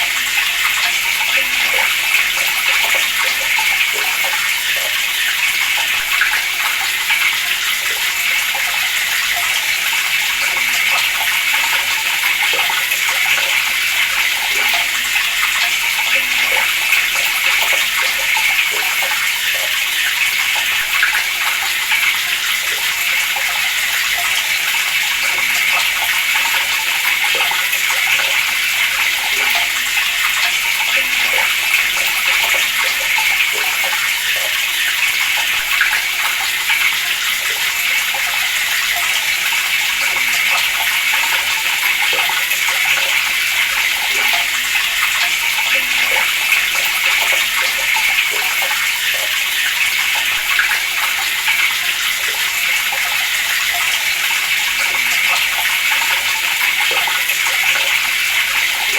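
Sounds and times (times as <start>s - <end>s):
water running from a tap: 0.0s - 58.9s.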